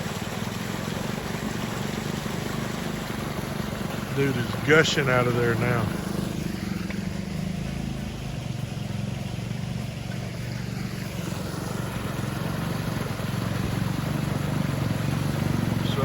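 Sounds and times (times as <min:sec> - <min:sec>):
engine running: 0:00.0 - 0:16.0
water gushing from culvert: 0:00.0 - 0:16.0.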